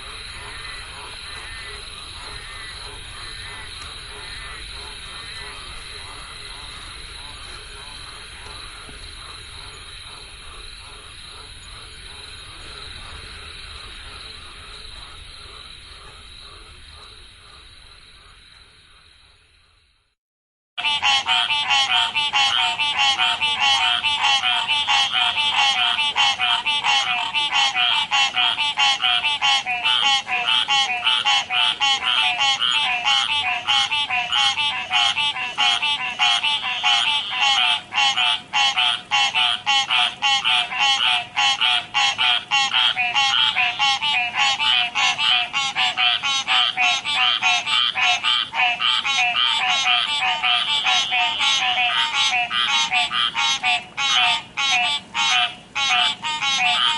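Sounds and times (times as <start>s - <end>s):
frogs croaking: 0.0s - 20.1s, 20.8s - 56.9s.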